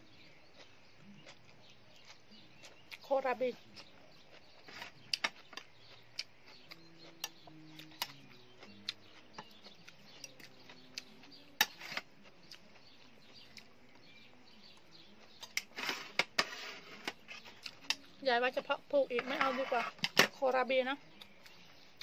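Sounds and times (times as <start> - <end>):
chewing and eating noises: 0.0 - 22.0.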